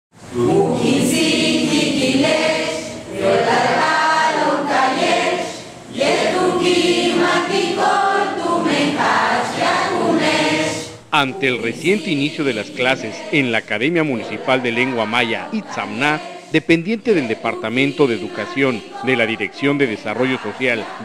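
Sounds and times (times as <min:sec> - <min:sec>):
choir singing: 0:00.3 - 0:21.0.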